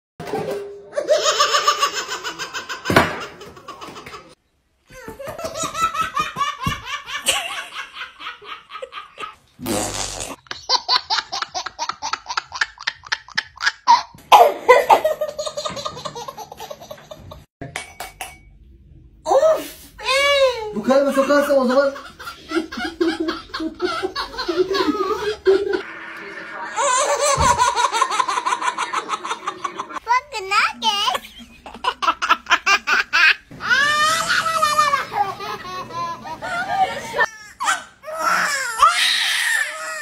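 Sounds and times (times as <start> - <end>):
babies laughing: 0.9 - 9.4, 10.4 - 17.5, 21.1 - 30.0, 30.8 - 40.0.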